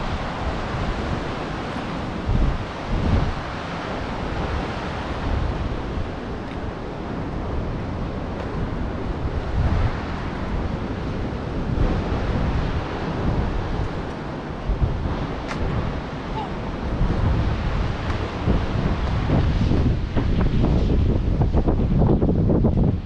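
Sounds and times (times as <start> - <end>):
ocean surf breaking: 0.0 - 23.0
wind buffeting microphone: 0.0 - 23.0.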